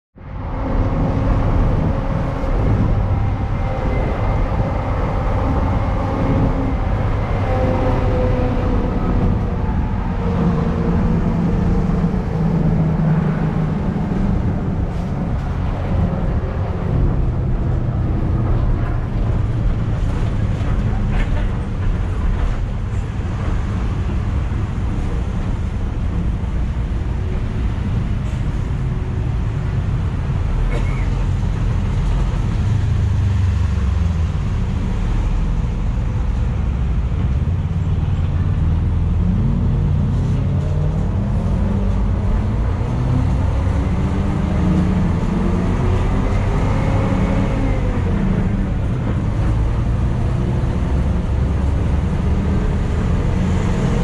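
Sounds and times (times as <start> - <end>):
road noise: 0.1 - 54.0
bus engine rumble: 0.2 - 54.0.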